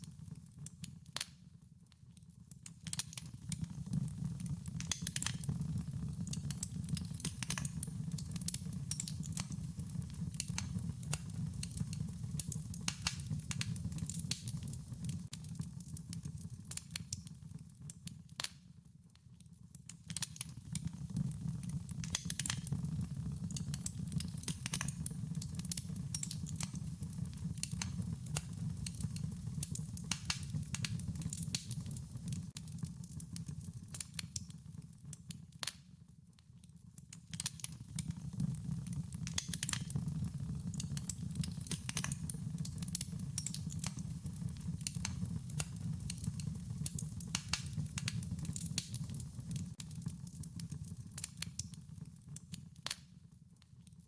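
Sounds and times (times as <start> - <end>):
wood fire crackling: 2.4 - 19.2, 19.8 - 35.8, 37.0 - 53.1.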